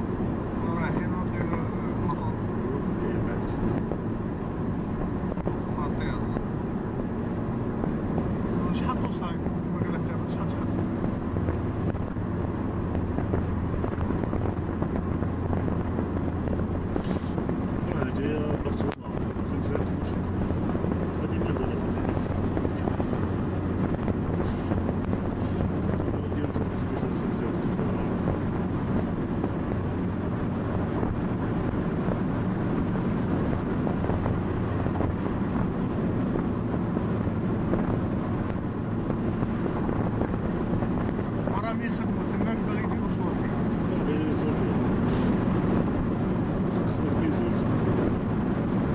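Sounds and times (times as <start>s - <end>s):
engine and tyre drone: 0.0s - 48.9s
wind rushing: 0.0s - 48.9s.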